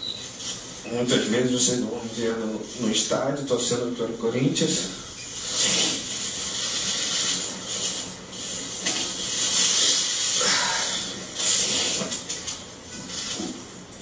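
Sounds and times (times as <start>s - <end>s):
loud steady hiss: 0.2s - 14.0s.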